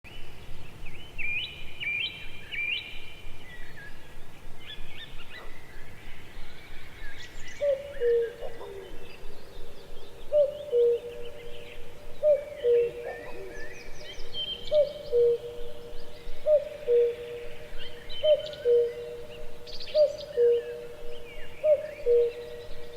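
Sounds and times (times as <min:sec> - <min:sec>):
birds chirping and trilling: 0:00.1 - 0:22.9.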